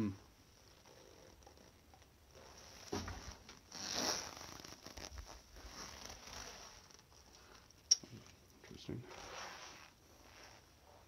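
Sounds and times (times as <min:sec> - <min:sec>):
light scraping and rustling: 0:00.6 - 0:11.0.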